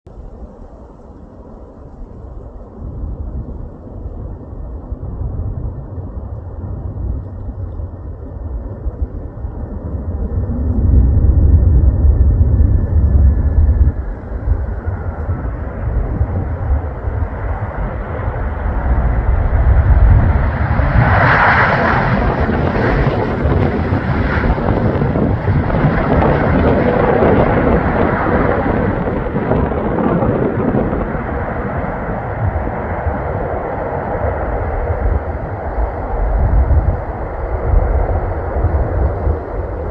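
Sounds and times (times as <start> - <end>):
jet engines rumbling: 0.1 - 39.9.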